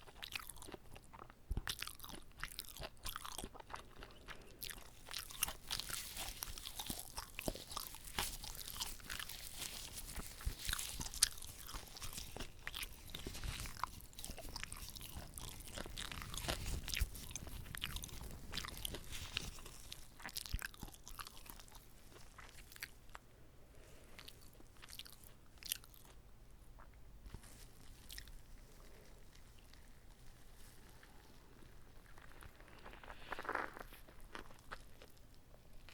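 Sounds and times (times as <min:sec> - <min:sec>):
biting and chewing food: 0:00.0 - 0:35.9.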